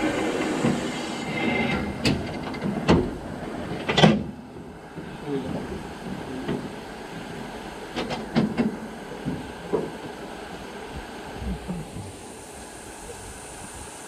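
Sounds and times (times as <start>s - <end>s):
steam hiss: 0.0s - 14.0s.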